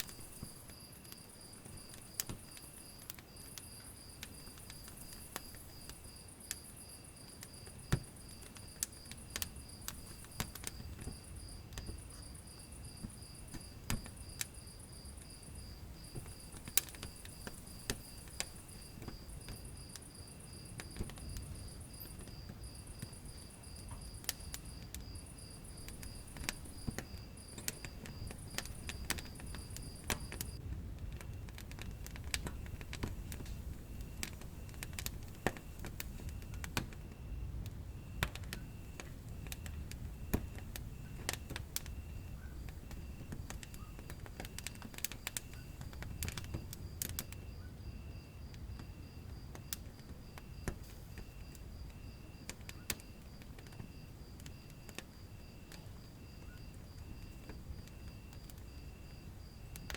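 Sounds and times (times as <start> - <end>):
fireplace fire crackling and popping: 0.0 - 59.9.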